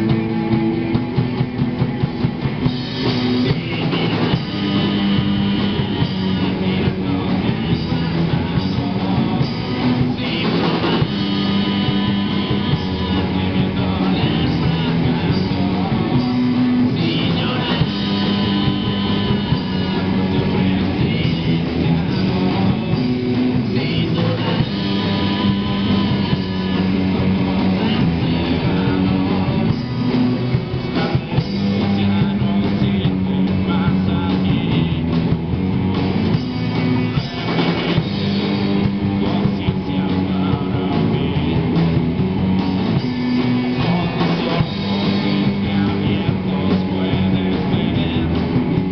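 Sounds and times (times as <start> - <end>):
drum kit: 0.0 - 48.9
electric guitars: 0.0 - 48.9
person singing: 2.5 - 35.4, 36.3 - 42.0, 43.0 - 48.9.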